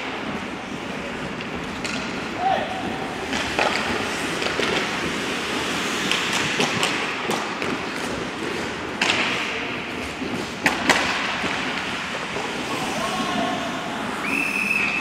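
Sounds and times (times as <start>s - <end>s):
hockey sticks and puck clacking: 0.0s - 15.0s
skates scraping ice: 0.0s - 15.0s.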